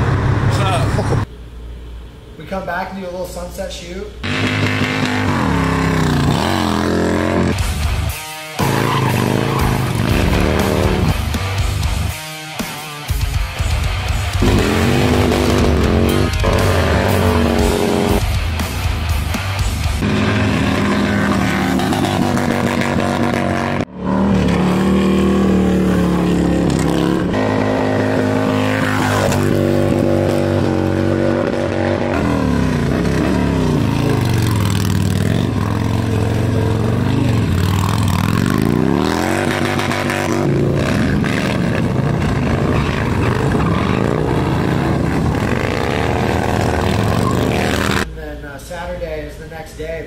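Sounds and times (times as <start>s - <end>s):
motorcycle engines revving: 4.2s - 12.2s, 13.2s - 48.1s.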